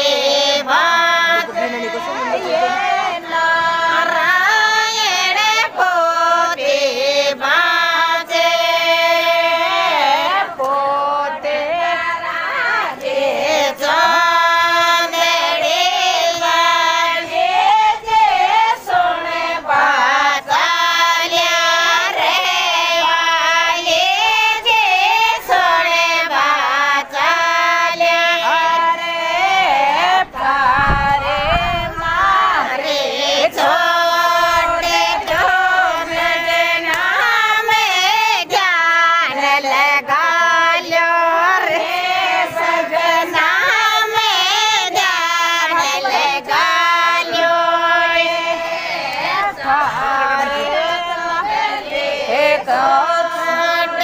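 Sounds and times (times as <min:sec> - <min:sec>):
women singing folk song: 0:00.0 - 0:54.0.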